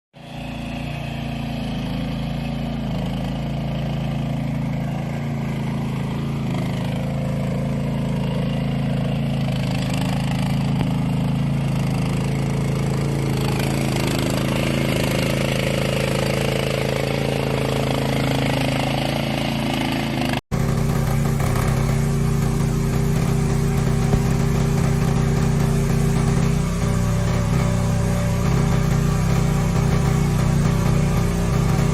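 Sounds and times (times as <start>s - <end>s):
loader engine running: 0.2s - 31.9s.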